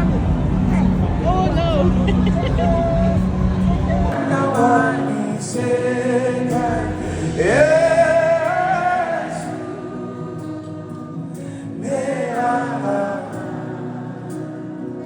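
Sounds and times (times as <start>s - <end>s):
gospel worship singing: 0.0s - 15.0s.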